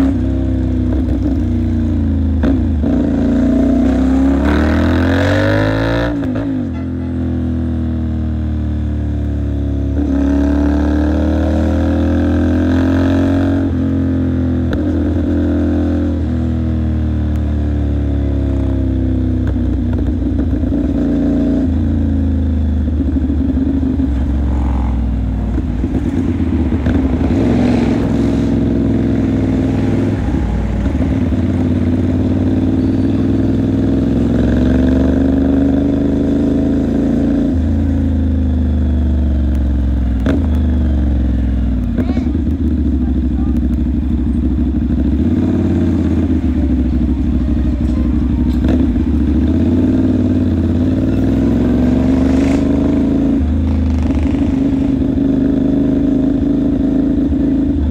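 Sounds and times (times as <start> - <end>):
motorcycle engine shifting gears: 0.0 - 6.8, 7.6 - 57.9.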